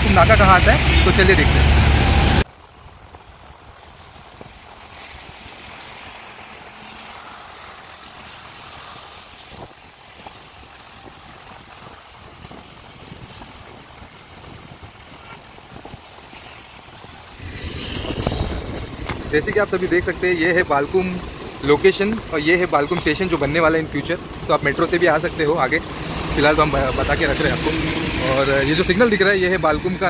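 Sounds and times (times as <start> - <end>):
road traffic noise: 0.0 - 30.0
wind: 0.0 - 30.0.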